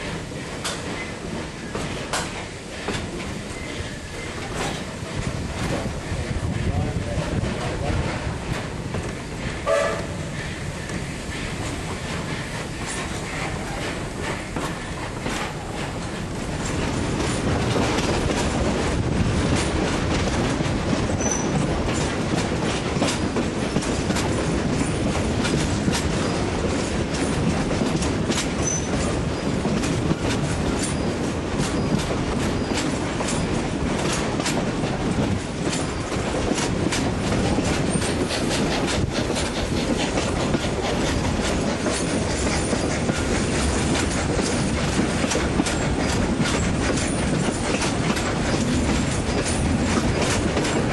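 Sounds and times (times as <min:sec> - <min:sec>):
wheels clicking on track: 0:00.0 - 0:10.1, 0:10.8 - 0:50.9
train rumbling: 0:00.0 - 0:50.9.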